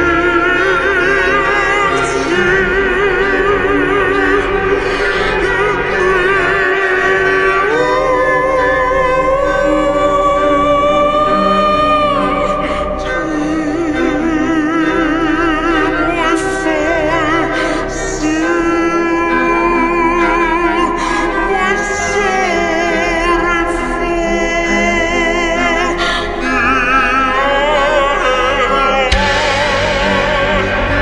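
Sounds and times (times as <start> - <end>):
musical accompaniment: 0.0 - 31.0
singing with vibrato: 0.0 - 31.0.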